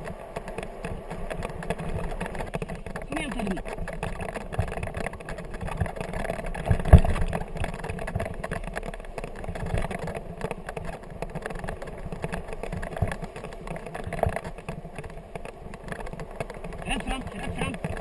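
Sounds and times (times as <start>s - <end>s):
scooter rolling on rough trail: 0.0s - 18.0s.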